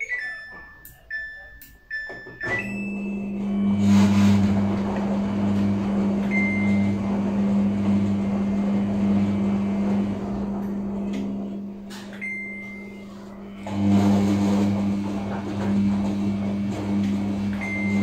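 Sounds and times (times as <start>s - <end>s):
washing machine motor humming: 0.0s - 18.0s.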